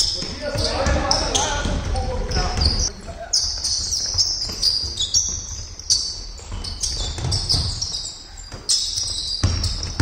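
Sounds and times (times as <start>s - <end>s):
basketball bouncing: 0.0s - 2.9s, 3.6s - 10.0s
shoes squeaking on wooden floor: 0.0s - 10.0s.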